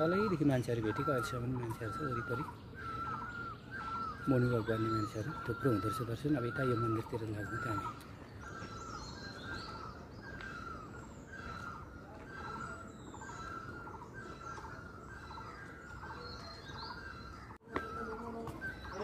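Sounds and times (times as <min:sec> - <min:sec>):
barbet calling: 0:00.0 - 0:19.0
small birds chirping: 0:00.0 - 0:19.0.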